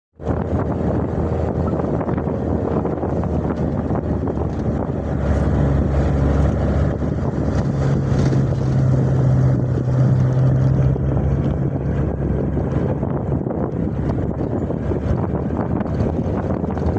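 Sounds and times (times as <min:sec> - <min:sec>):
motor low rumble: 0:00.2 - 0:16.9
wind buffeting microphone: 0:00.2 - 0:16.9.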